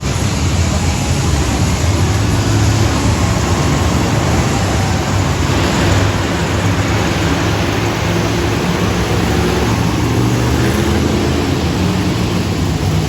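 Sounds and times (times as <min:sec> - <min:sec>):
loud arena noise: 0:00.0 - 0:13.0
monster truck engine drone: 0:00.0 - 0:13.0.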